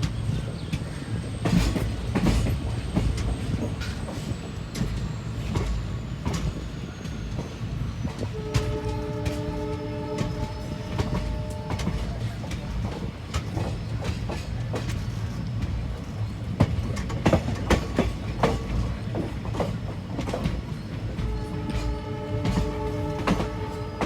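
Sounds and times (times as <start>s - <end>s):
train coaches rumbling: 0.0s - 24.0s
wheels clanking over rail joints: 0.0s - 24.0s.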